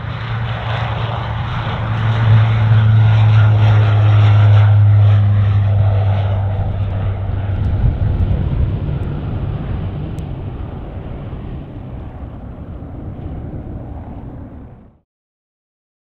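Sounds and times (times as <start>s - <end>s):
turboprop plane taking off: 0.0s - 15.0s.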